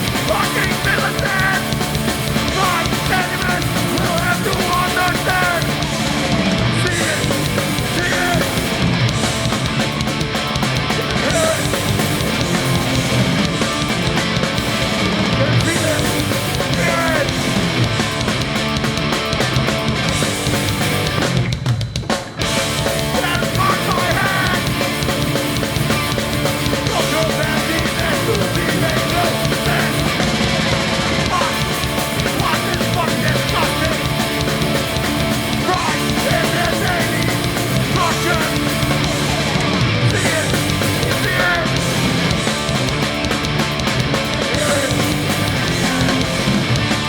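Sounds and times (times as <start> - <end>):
loud punk band playing: 0.0 - 47.0.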